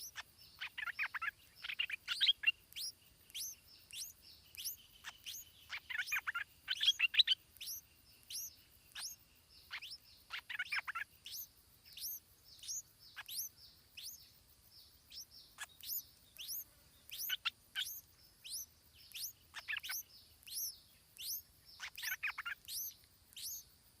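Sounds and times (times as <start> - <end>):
small bird chirping: 0.0 - 24.0.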